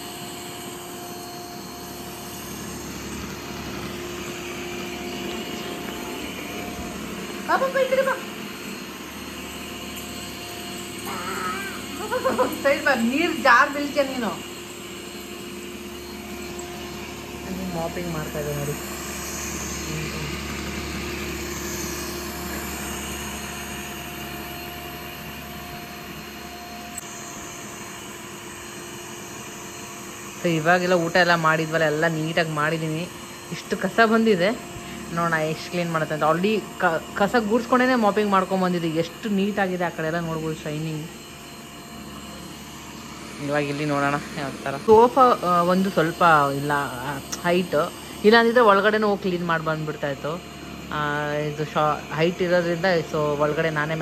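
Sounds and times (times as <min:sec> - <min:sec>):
robot vacuum humming: 0:00.0 - 0:54.0.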